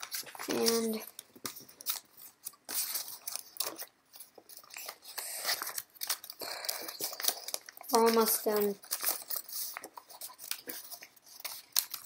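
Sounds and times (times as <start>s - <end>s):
paper crinkling: 0.0s - 12.0s.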